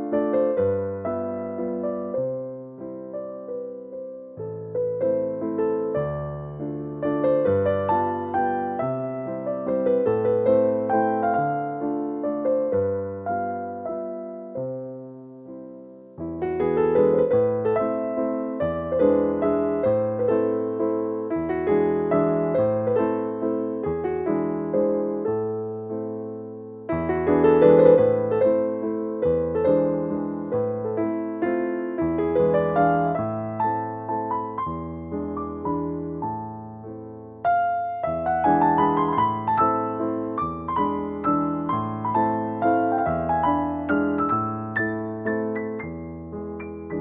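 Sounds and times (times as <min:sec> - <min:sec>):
calm electric piano music: 0:00.0 - 0:47.0.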